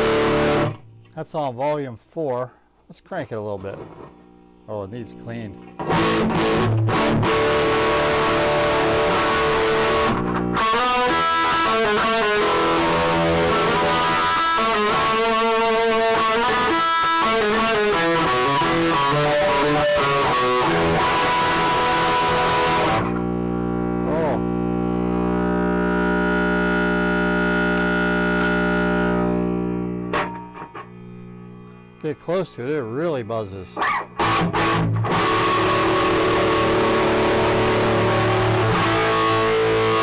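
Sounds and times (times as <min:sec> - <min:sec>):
loud electric guitar: 0:00.0 - 0:01.2, 0:05.2 - 0:40.0.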